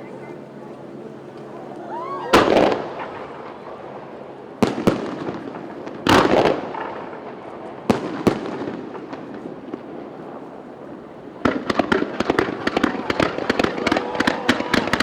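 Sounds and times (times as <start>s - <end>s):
fireworks bursting: 1.4s - 15.0s.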